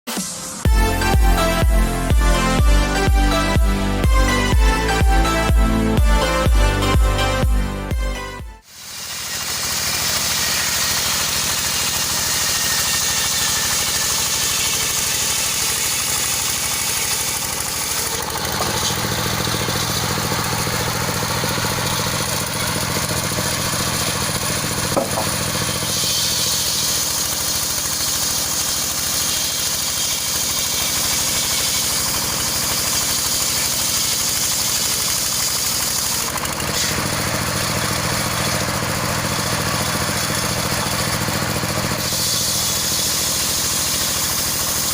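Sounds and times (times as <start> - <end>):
circular saw and engine running: 0.1 - 44.9.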